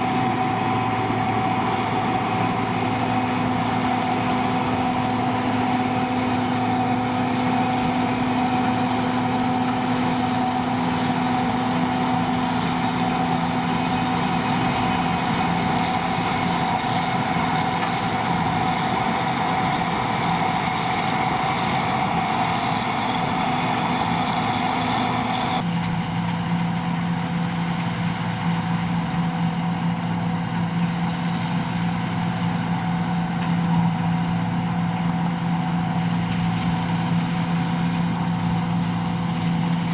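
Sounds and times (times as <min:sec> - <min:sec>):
combine harvester hum: 0:00.0 - 0:39.9.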